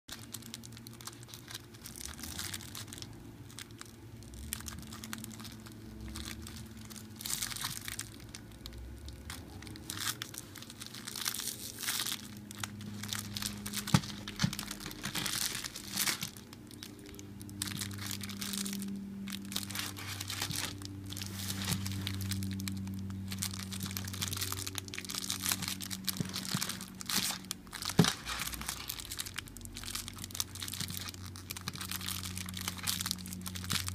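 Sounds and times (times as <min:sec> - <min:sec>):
plastic wrappers crinkling: 0:00.1 - 0:33.9.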